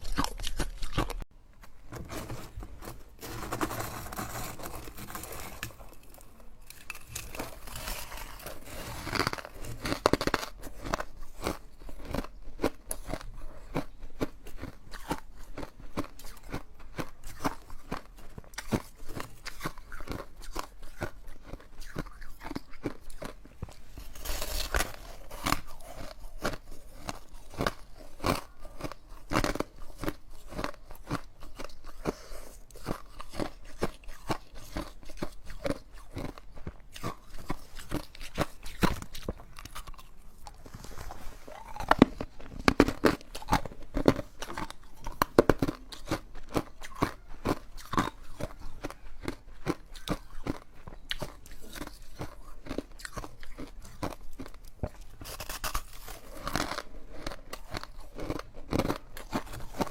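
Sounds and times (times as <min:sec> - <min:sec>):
ice being chewed: 0:00.0 - 0:01.3, 0:01.9 - 0:59.9.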